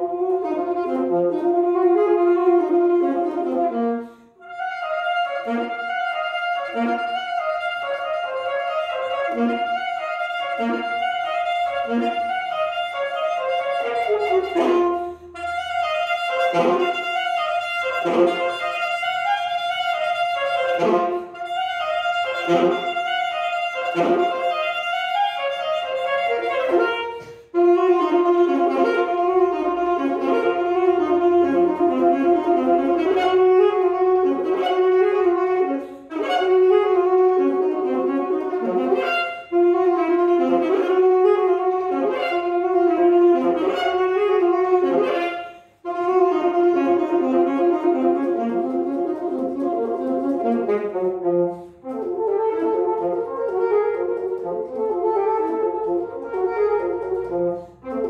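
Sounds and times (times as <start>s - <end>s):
solo saxophone melody: 0.0s - 58.0s.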